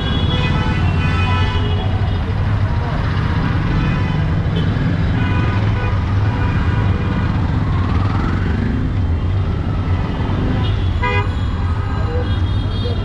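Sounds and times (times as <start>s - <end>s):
motor vehicles idling and passing: 0.0s - 13.0s.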